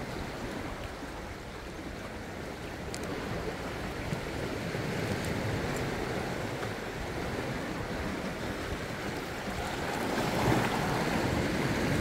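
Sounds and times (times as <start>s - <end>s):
sea waves washing against rocks: 0.0s - 12.0s.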